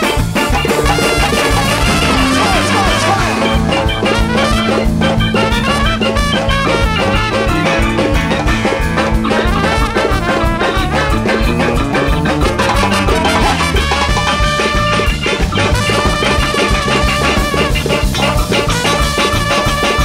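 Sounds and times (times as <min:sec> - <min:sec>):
driving drum and percussion groove: 0:00.0 - 0:20.0
saxophones and trumpet: 0:00.0 - 0:20.0.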